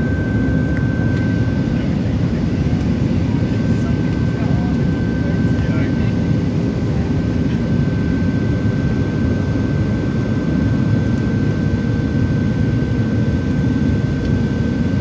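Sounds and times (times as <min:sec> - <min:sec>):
jet engine cabin rumble: 0:00.0 - 0:15.0
thin steady whine: 0:00.0 - 0:15.0.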